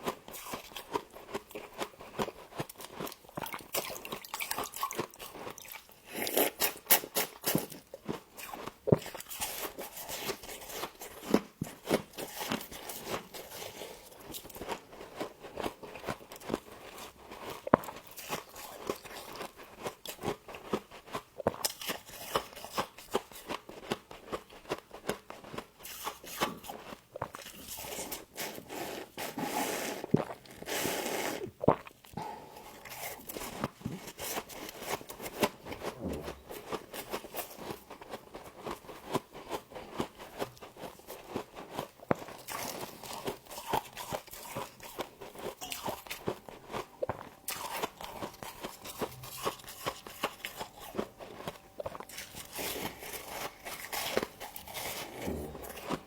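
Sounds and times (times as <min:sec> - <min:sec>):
frost crunching while chewed: 0:00.0 - 0:56.0.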